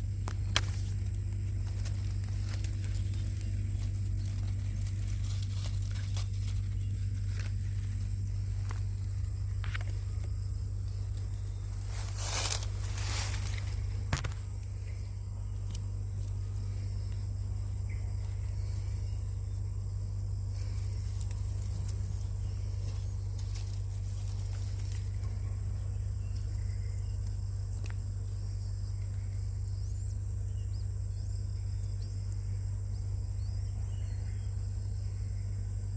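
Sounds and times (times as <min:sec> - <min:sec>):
small chirps: 0:00.0 - 0:34.6
steady low hum: 0:00.0 - 0:35.9.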